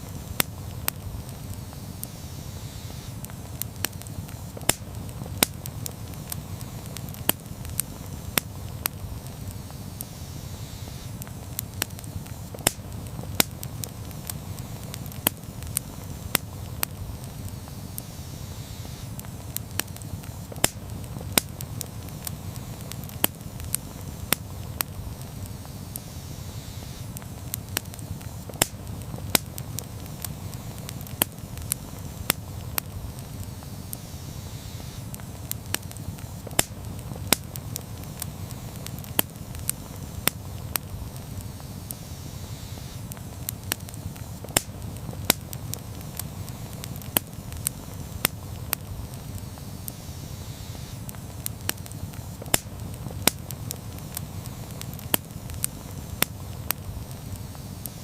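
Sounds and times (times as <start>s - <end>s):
campfire crackling: 0.0s - 58.0s
low rumble of flames: 0.0s - 58.0s.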